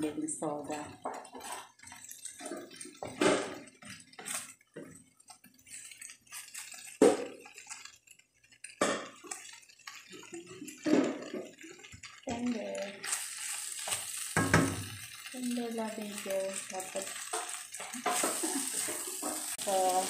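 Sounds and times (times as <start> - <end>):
wooden spatula scraping a skillet: 0.0 - 20.0.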